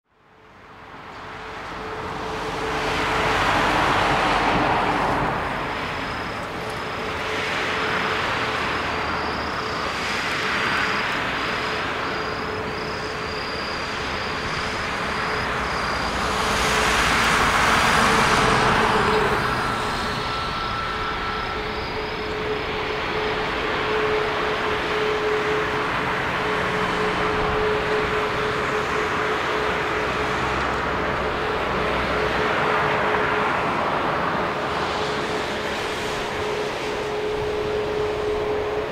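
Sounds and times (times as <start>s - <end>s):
jet engine whine: 0.1s - 38.9s
rushing noise: 0.6s - 38.9s.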